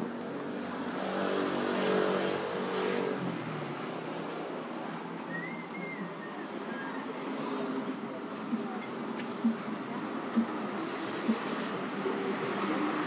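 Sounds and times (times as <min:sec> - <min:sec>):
busy street noise: 0:00.0 - 0:13.0.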